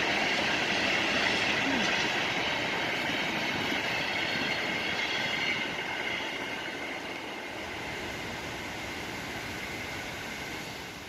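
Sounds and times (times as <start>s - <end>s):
freight train cars rolling on rails: 0.0s - 11.0s.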